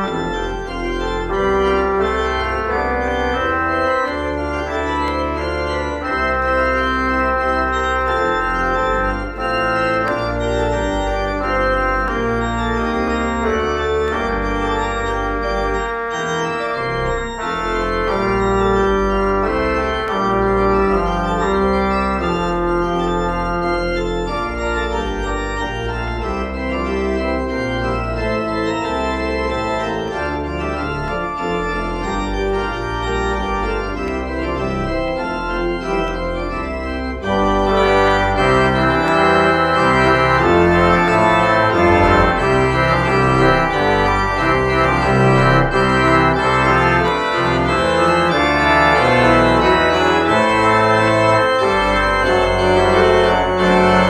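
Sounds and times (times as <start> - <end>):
organ chords over pedal bass: 0.0 - 54.0.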